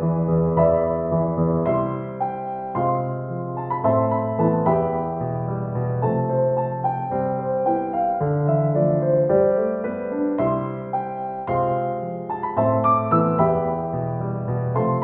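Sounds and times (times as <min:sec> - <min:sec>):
slow gentle piano piece: 0:00.0 - 0:15.0.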